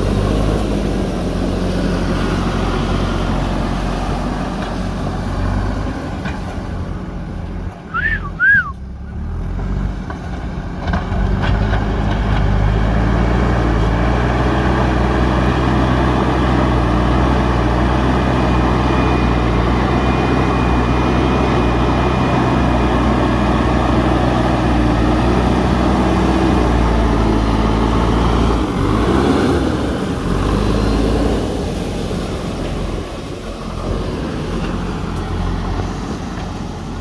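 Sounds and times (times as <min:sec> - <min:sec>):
diesel engine running under load: 0:00.0 - 0:37.0.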